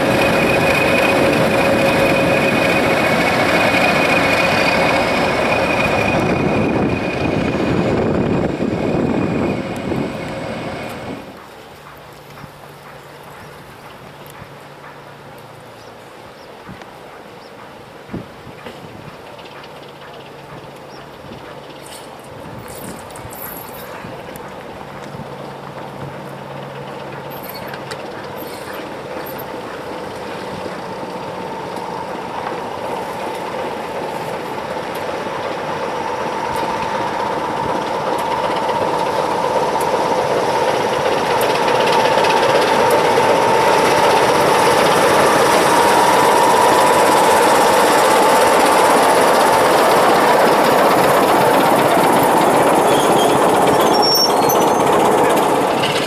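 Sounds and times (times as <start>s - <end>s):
diesel train approaching: 0.0s - 56.0s.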